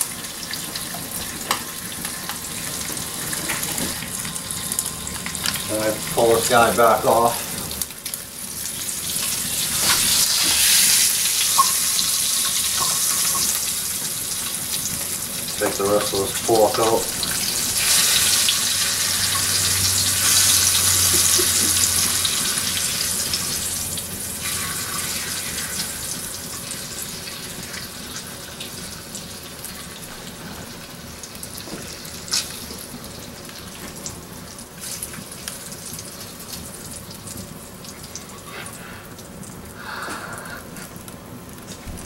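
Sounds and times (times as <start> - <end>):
grease sizzling in a skillet: 0.0 - 39.7.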